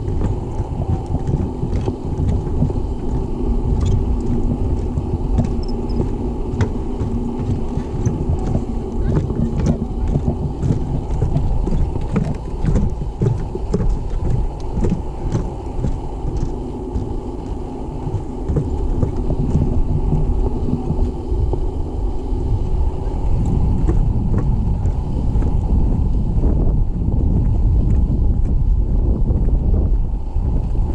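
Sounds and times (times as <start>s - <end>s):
footsteps on wooden boardwalk: 0.0s - 22.0s, 23.0s - 30.8s
wind buffeting microphone: 0.0s - 30.9s.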